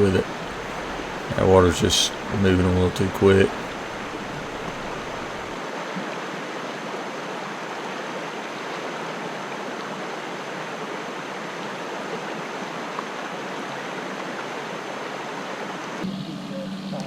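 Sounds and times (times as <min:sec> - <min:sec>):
river water rushing over rapids: 0:00.0 - 0:16.0.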